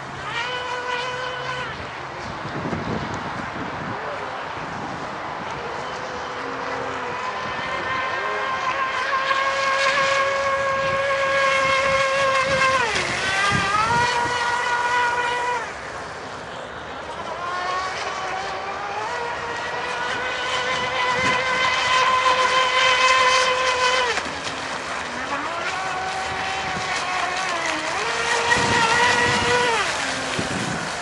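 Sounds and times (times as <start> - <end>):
model boat motor whining: 0.0 - 31.0.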